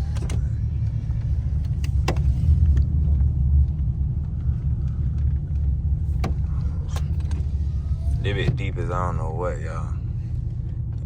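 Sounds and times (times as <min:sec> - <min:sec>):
exhaust rumble: 0:00.0 - 0:11.0.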